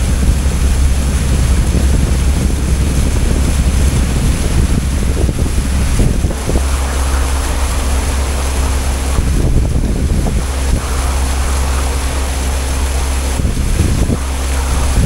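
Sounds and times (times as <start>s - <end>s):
ferry engine drone: 0.0s - 15.0s
water rushing past hull: 0.0s - 15.0s
wind buffeting microphone: 0.0s - 15.0s.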